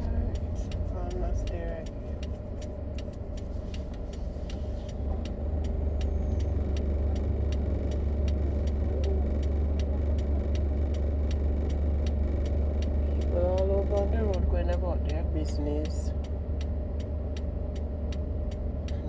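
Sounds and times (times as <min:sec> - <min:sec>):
car cabin rumble: 0:00.0 - 0:19.0
fast regular ticking: 0:00.0 - 0:19.0.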